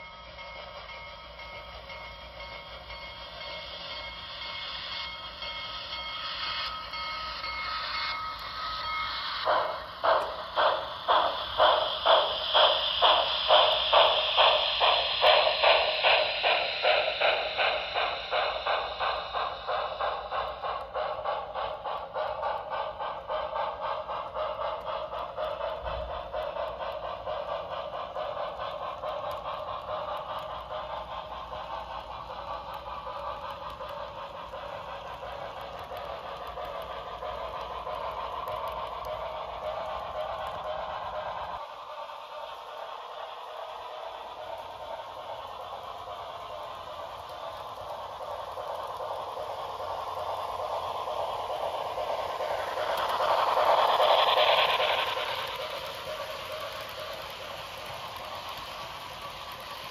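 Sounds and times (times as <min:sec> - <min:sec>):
model steam locomotive chuffing: 0:00.0 - 0:59.9
wheels rolling on track: 0:00.6 - 0:59.9.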